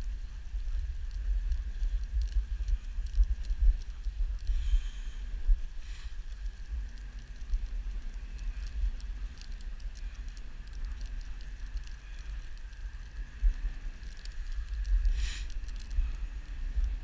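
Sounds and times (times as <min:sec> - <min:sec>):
dog paws and harness patter: 0:00.0 - 0:17.0
sled runners rumbling on snow: 0:00.0 - 0:17.0.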